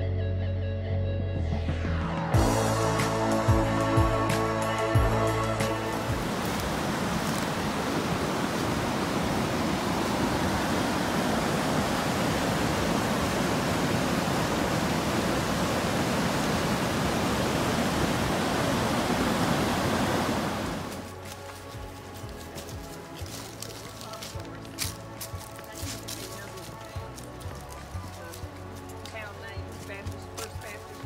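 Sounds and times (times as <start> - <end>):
river rapids rushing: 4.0 - 31.0.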